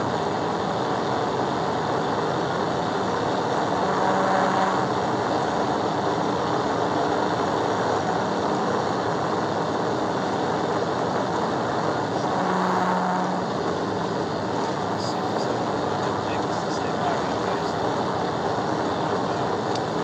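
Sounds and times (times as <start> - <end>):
wind tyre and engine noise: 0.0 - 20.0.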